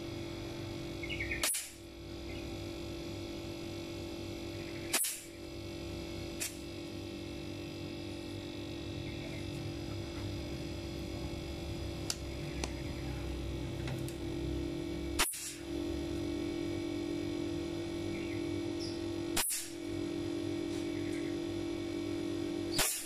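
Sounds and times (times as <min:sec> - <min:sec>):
compressors humming: 0:00.0 - 0:23.0.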